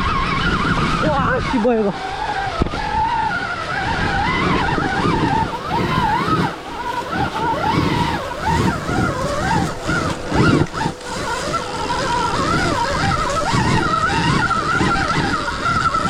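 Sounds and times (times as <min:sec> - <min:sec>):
electric motorbike motor whining: 0:00.0 - 0:16.0.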